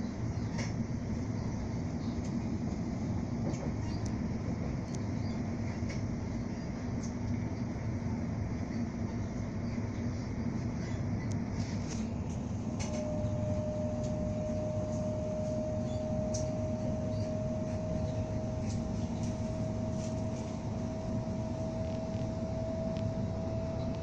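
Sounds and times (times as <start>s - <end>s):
steady whine: 0.0s - 24.0s
train rumble and hiss: 0.0s - 24.0s.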